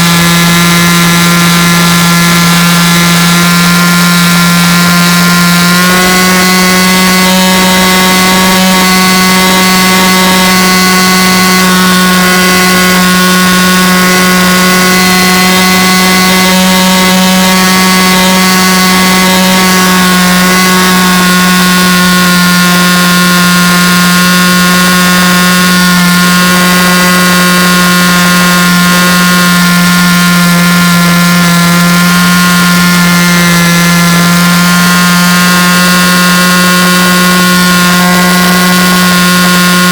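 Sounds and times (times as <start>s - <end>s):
loud buzzing drone: 0.0s - 39.9s.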